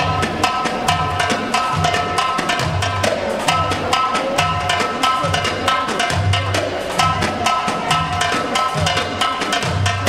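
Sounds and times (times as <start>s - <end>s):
hand drum strokes: 0.0s - 10.0s.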